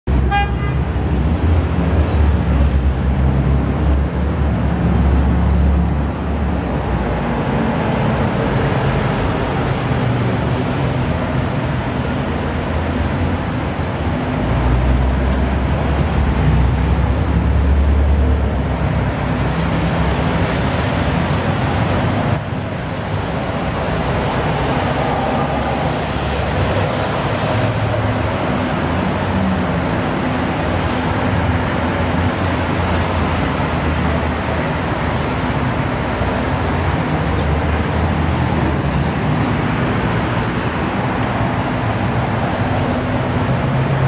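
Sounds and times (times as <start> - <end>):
traffic on wet roads: 0.0 - 44.0.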